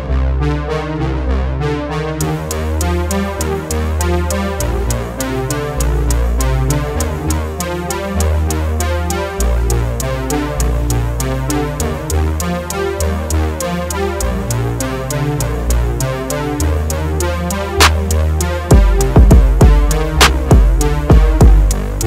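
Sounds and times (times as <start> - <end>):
electronic synthesizer music: 0.0 - 22.0.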